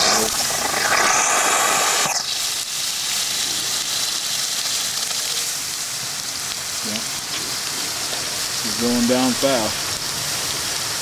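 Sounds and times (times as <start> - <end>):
steam hissing: 0.0 - 11.0
water spraying and spattering: 0.0 - 11.0.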